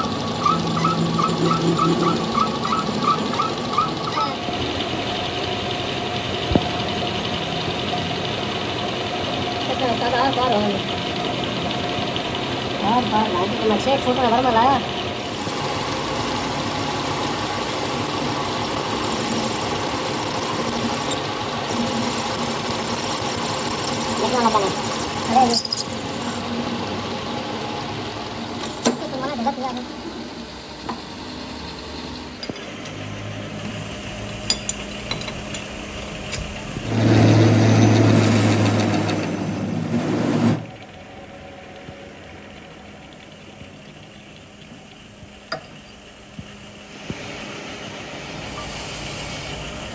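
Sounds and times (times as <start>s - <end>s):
machine running loudly: 0.0s - 49.9s
motor humming steadily: 0.0s - 49.9s.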